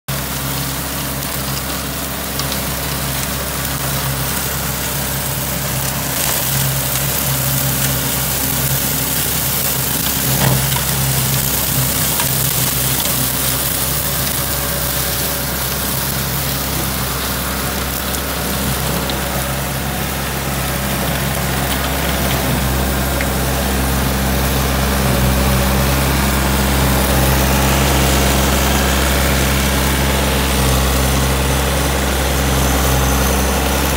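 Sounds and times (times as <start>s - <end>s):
tractor diesel engine under load: 0.0s - 33.9s
flail mower chopping grass: 0.1s - 33.9s.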